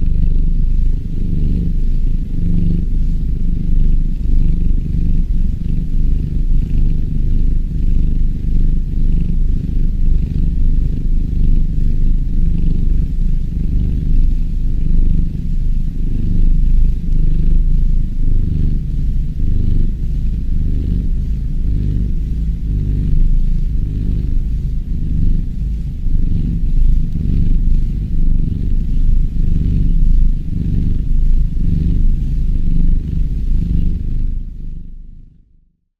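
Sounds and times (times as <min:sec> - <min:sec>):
kitten purring: 0:00.0 - 0:35.8.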